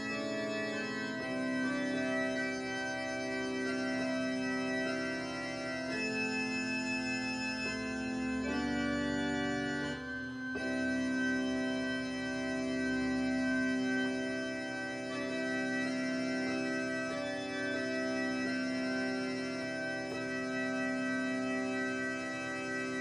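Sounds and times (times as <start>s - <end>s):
organ chords on keyboard: 0.0s - 23.0s.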